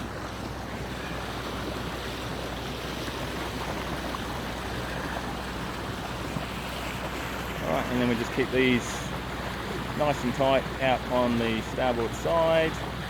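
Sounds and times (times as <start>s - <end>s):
boat engine hum: 0.0s - 13.0s
water rushing along hull: 0.0s - 13.0s.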